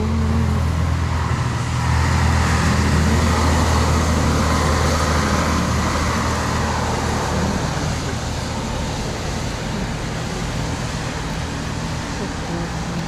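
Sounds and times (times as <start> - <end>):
truck engine rumble: 0.0 - 13.0
tyres on wet road: 0.0 - 13.0.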